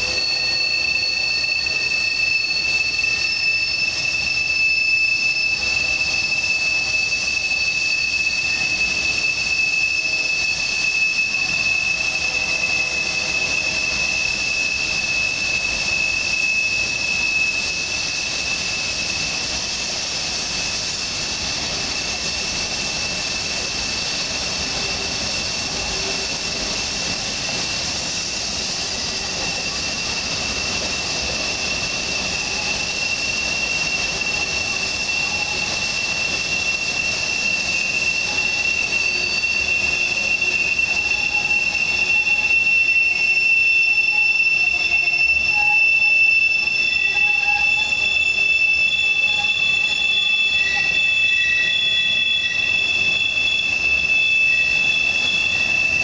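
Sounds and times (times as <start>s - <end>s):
train wheels rumbling on rails: 0.0s - 56.0s
wheel flanges squealing: 0.0s - 56.0s.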